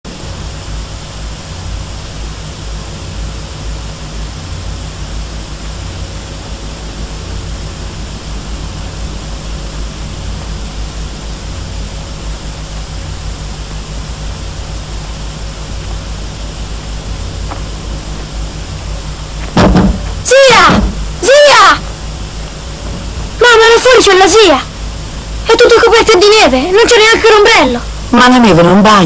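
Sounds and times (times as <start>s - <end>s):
deep rumble: 0.1s - 26.8s
snowstorm wind blowing: 0.2s - 29.0s.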